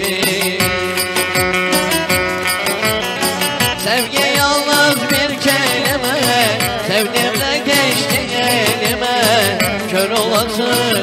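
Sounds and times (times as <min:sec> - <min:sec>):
folk melody on lute and keyboard: 0:00.0 - 0:11.0
programmed drum beat: 0:00.0 - 0:11.0.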